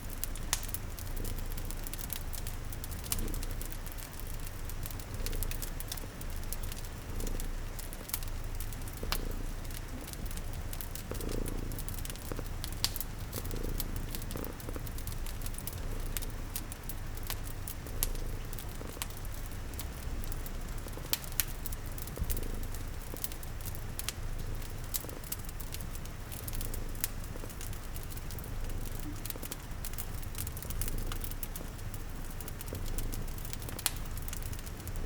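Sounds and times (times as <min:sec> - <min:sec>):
fireplace crackling and popping: 0:00.0 - 0:35.0.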